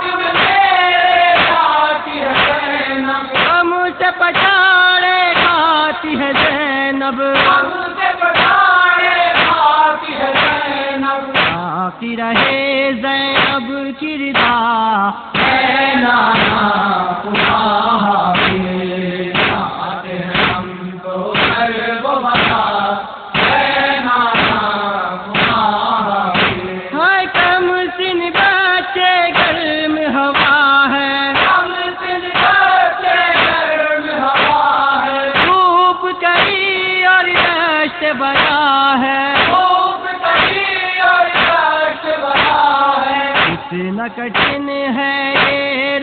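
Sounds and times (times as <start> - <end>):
man chanting a lament: 0.0 - 46.0
beat of thuds: 0.3 - 3.7, 4.3 - 6.8, 7.4 - 11.8, 12.4 - 12.7, 13.4 - 13.7, 14.4 - 14.7, 15.4 - 16.8, 17.4 - 17.8, 18.4 - 18.7, 19.3 - 27.7, 28.3 - 35.8, 36.4 - 38.7, 39.4 - 42.7, 43.3 - 44.8, 45.4 - 45.9.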